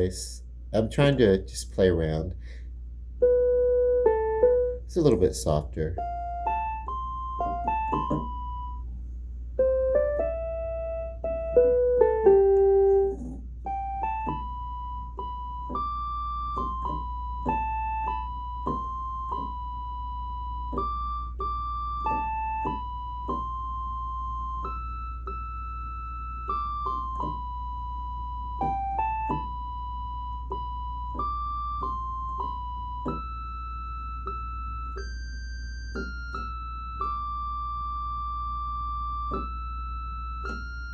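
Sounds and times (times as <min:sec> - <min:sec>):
steady low hum: 0:00.0 - 0:40.9
electronic keyboard melody: 0:03.2 - 0:40.9.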